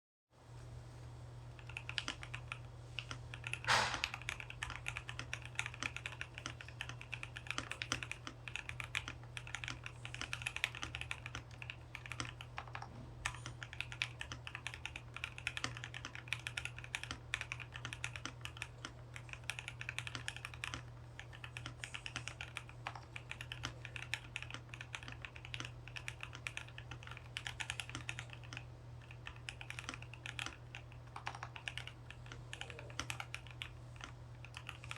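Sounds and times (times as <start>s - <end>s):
mechanical keyboard typing: 1.6s - 34.9s.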